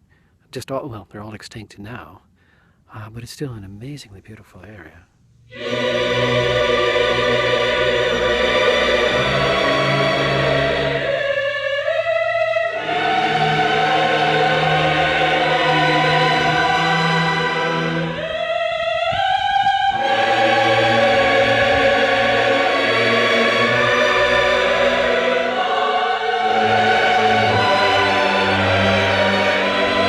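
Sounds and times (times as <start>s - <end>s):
choir singing held chords: 5.5s - 30.0s.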